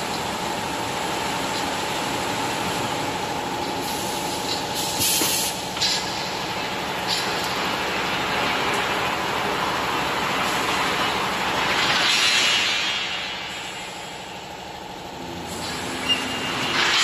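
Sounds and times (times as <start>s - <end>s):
machinery rumbling and rattling: 0.0s - 17.0s.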